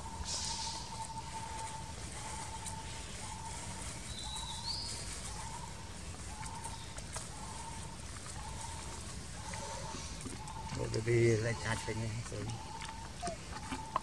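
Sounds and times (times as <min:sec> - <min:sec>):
bird calling steady note: 0:00.0 - 0:14.0.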